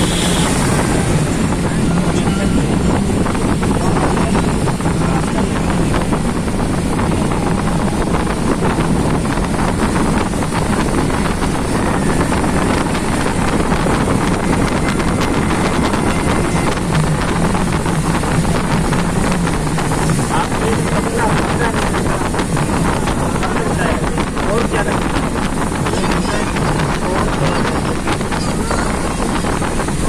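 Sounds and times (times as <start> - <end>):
vehicle engine hum: 0.0 - 30.0
wind buffeting microphone: 0.0 - 30.0.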